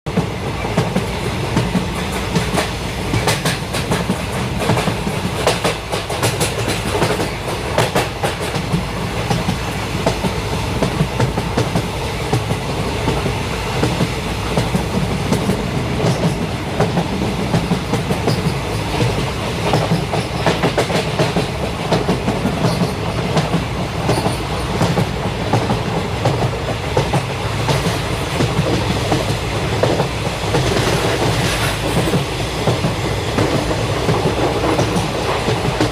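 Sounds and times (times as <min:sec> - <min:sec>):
train rumble: 0:00.1 - 0:35.9.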